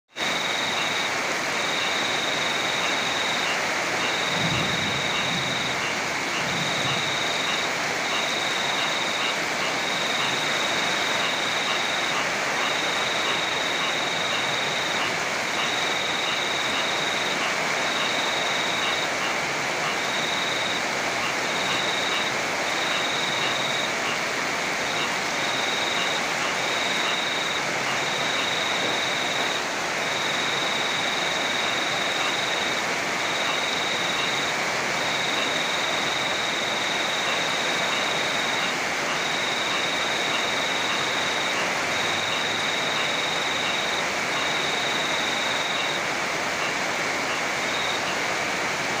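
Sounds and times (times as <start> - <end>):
heavy rain: 0.1 - 49.0.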